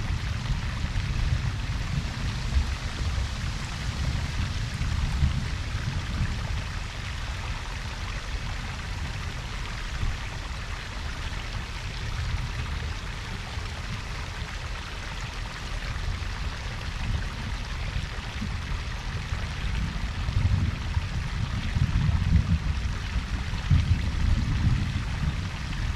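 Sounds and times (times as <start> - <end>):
waterfall rushing and splashing: 0.0 - 25.9.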